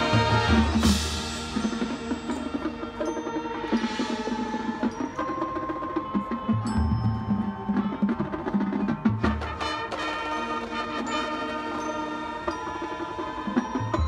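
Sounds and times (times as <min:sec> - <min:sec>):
marimbas and mallet percussion: 0:00.0 - 0:14.0.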